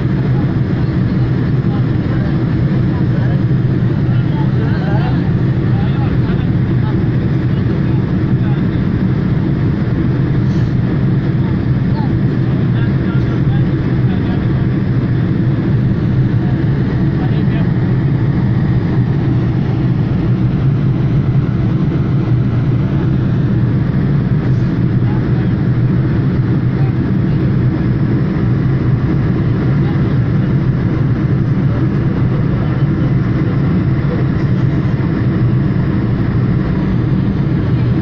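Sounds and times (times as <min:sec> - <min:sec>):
jet engines droning: 0:00.0 - 0:38.0.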